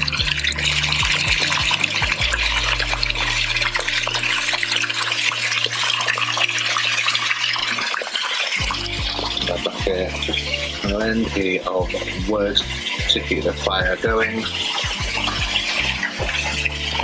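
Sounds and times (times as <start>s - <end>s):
tap water running into bathtub: 0.0s - 17.0s.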